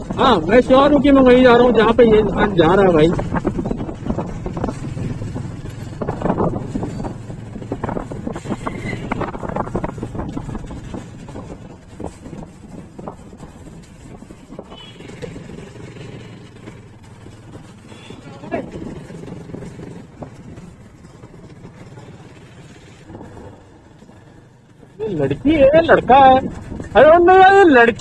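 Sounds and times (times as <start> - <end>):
motorcycle engine rumble: 0.0 - 28.0.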